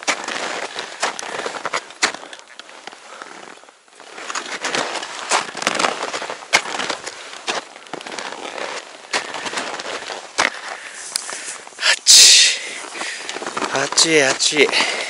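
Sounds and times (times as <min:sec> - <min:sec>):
boots crunching in snow: 0:00.0 - 0:11.8, 0:12.6 - 0:15.0
gear and clothing rustling: 0:00.0 - 0:11.8, 0:12.6 - 0:15.0.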